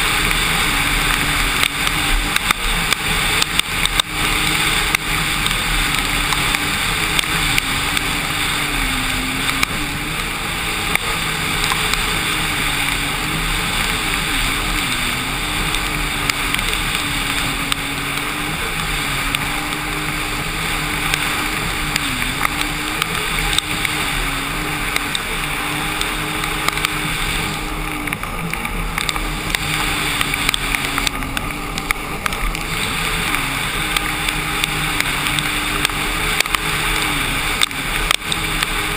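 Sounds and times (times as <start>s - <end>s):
personal watercraft engine: 0.0s - 38.9s
wind and spray noise: 0.0s - 38.9s.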